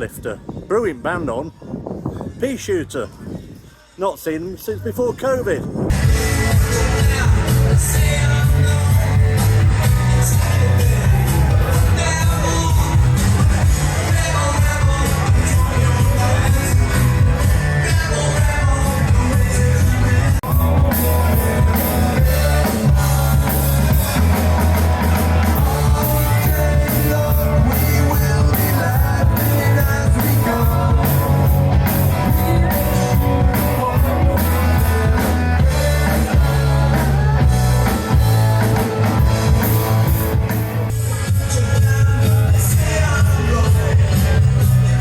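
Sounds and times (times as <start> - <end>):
bass: 0.0 - 3.6, 4.4 - 45.0
guitar: 4.9 - 45.0
drum kit: 5.9 - 45.0
person singing: 5.9 - 45.0.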